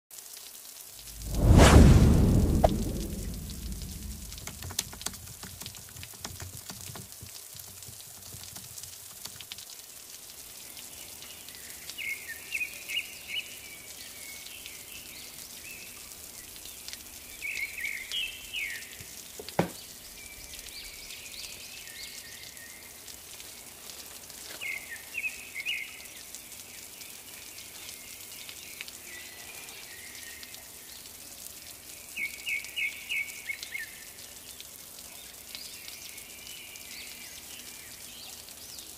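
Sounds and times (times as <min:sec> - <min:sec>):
crackling hiss: 0:00.2 - 0:38.9.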